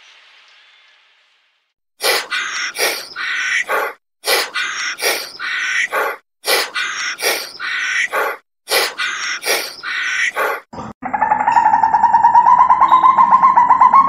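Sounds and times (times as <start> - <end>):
bird-like chirping call: 2.0 - 14.0.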